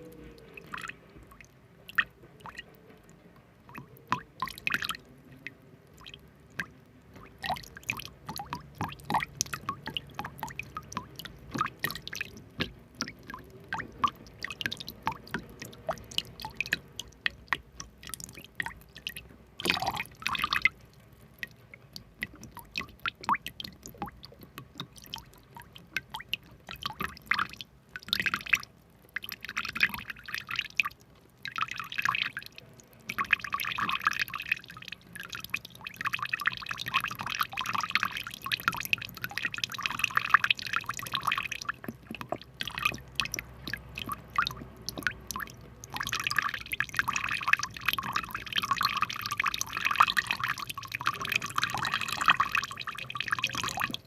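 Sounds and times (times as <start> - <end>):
water dripping and splashing: 0.0 - 54.0.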